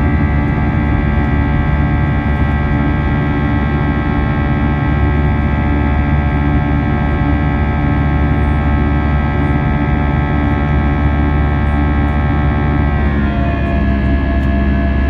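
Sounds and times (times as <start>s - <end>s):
jet engines whining: 0.0s - 8.6s, 11.0s - 15.0s.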